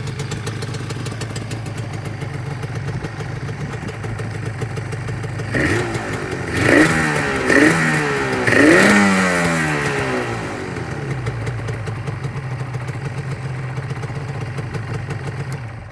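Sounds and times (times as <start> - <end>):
motorcycle engine idling and revving: 0.0 - 15.9.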